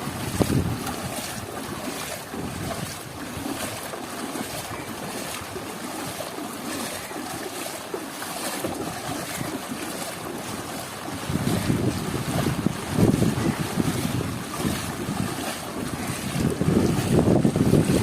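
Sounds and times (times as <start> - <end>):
wind rumbling on microphone: 0.0 - 6.2, 8.6 - 18.0.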